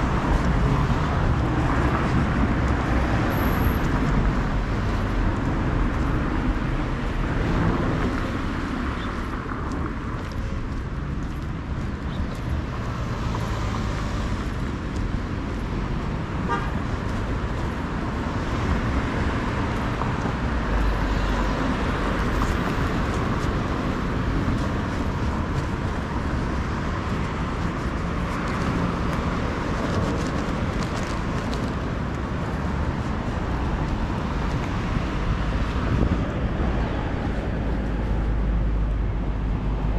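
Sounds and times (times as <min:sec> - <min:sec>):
cars driving past: 0:00.0 - 0:39.9
street background noise: 0:00.0 - 0:39.9
wind rumble on microphone: 0:00.0 - 0:39.9.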